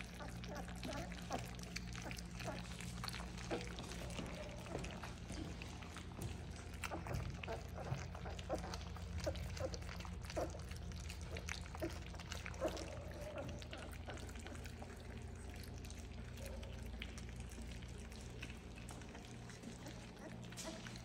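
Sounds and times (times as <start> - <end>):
puppies lapping food: 0.0 - 21.0.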